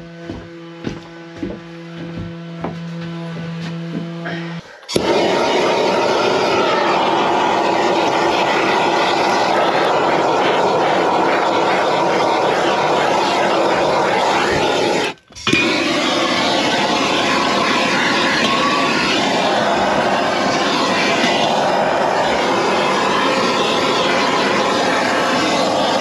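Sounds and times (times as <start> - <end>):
gas torch roaring: 3.8 - 26.0.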